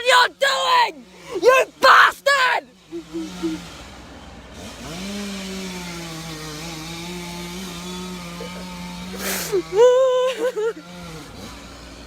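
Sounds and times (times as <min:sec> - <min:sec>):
chainsaw revving: 0:00.9 - 0:12.0.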